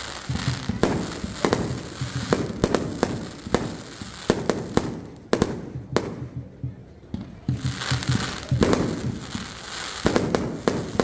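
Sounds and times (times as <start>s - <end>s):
fireworks bangs echoing: 0.0s - 11.0s.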